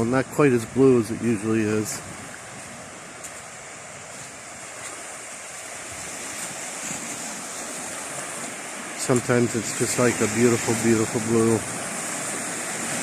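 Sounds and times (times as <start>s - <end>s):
ocean waves washing ashore: 0.0s - 13.0s
wind: 0.0s - 13.0s.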